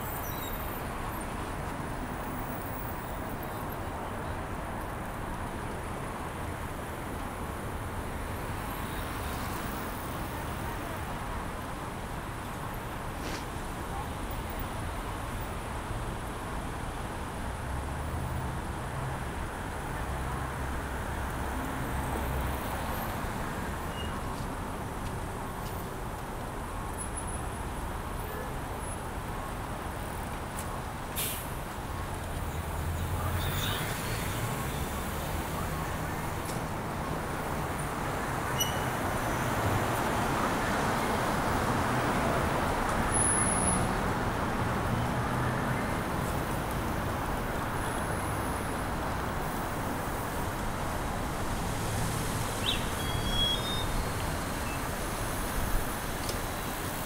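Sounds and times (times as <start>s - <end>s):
passing cars and buses: 0.0s - 57.0s
tyre and road noise: 0.0s - 57.0s.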